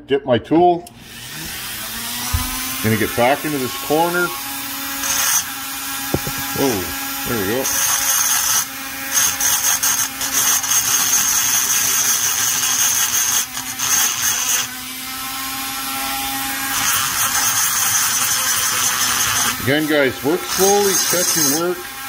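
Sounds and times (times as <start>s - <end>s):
rotary tool motor whine: 1.0s - 22.0s
rasping grind on metal: 2.2s - 22.0s.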